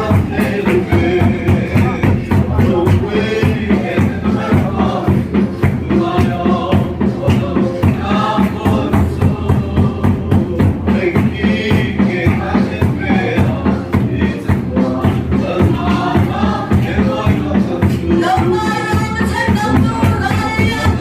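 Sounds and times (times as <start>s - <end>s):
group singing gospel song: 0.0s - 21.0s
steady drum beat: 0.0s - 21.0s.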